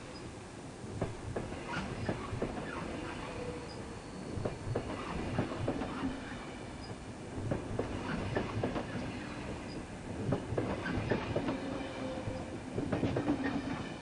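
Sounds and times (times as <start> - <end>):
train rumble: 0.0 - 14.0
train wheels clattering: 0.9 - 14.0.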